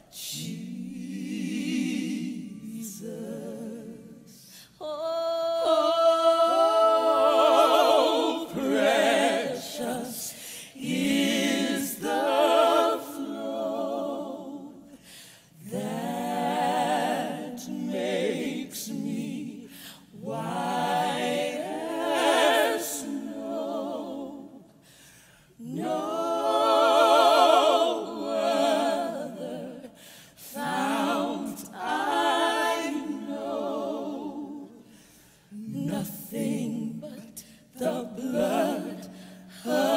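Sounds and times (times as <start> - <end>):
women singing a cappella hymn: 0.0 - 39.9.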